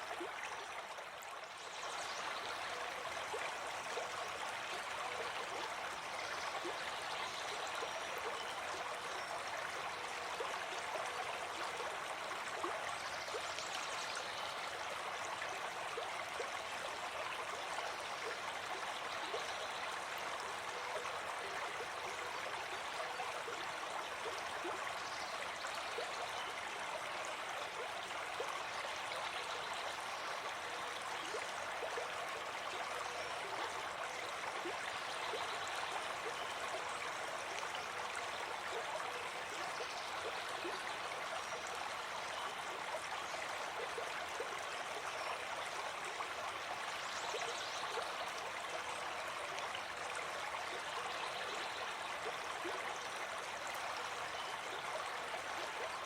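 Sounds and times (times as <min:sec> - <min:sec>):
stream flowing and splashing: 0:00.0 - 0:56.0.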